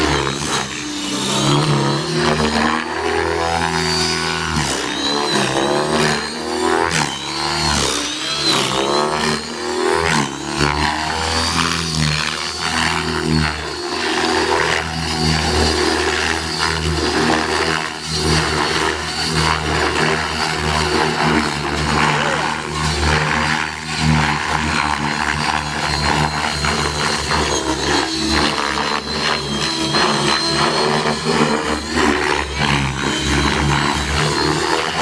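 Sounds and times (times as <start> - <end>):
motor and gear whine: 0.0 - 35.0
rc helicopter rotors whirring: 0.0 - 35.0.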